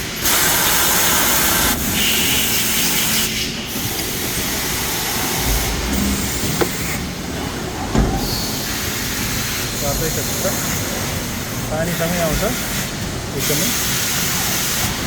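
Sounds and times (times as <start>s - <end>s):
machine cutting metal with coolant hiss: 0.0s - 7.2s, 8.2s - 15.0s.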